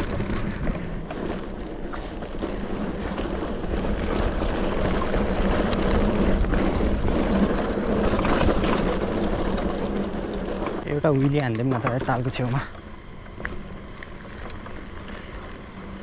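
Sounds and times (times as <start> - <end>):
tyres rumbling on gravel: 0.0 - 16.0.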